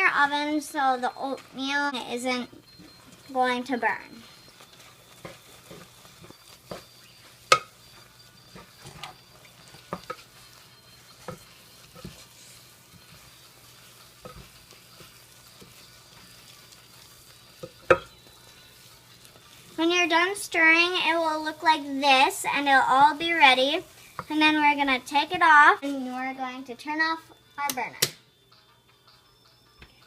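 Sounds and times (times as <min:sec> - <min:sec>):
wooden spoon scraping a pan: 0:00.0 - 0:26.5.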